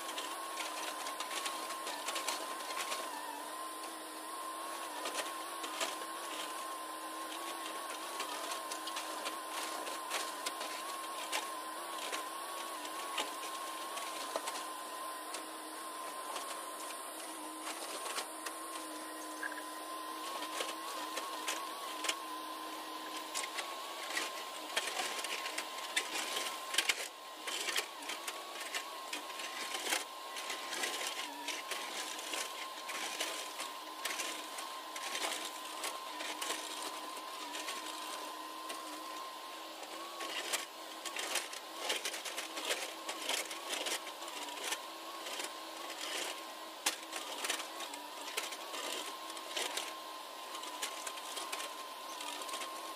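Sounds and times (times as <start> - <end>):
excavator engine and hydraulics whine: 0.0 - 52.9.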